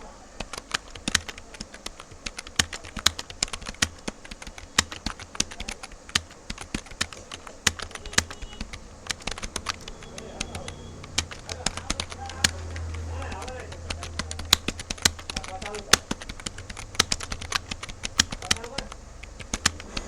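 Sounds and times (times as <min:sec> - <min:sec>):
fast typing on computer keyboard: 0:00.3 - 0:20.0.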